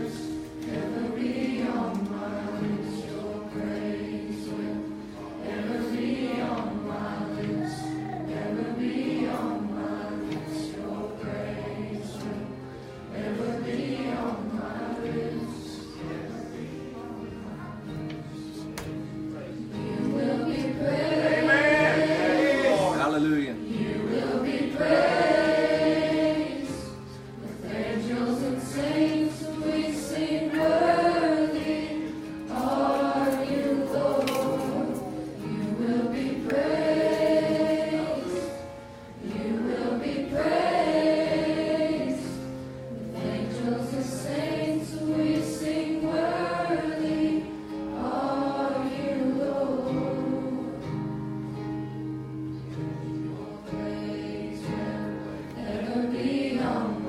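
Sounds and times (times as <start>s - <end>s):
group of voices singing: 0.0s - 18.9s, 19.6s - 51.3s, 52.7s - 57.0s.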